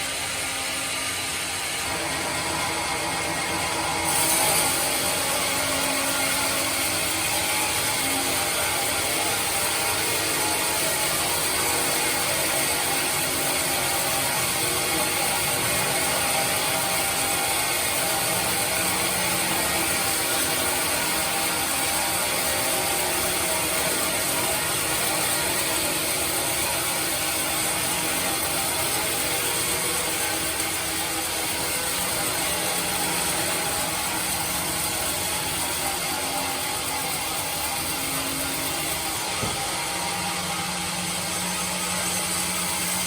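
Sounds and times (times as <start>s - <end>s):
band saw running: 0.0s - 43.0s.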